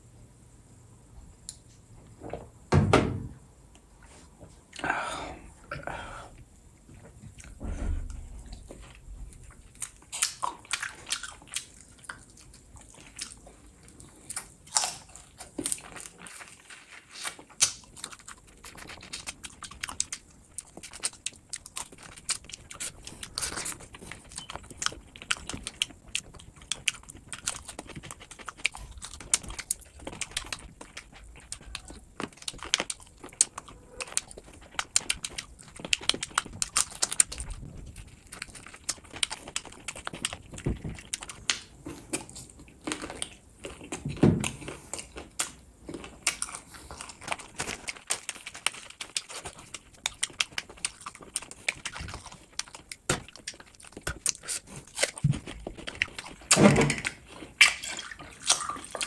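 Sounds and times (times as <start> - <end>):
person chewing and biting: 7.3 - 59.0.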